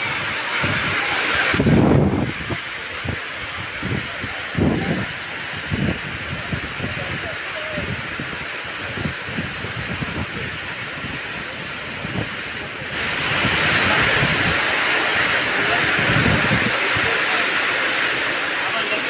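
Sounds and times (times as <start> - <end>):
wind buffeting microphone: 0.0 - 18.3
heavy rain pouring: 0.0 - 19.0.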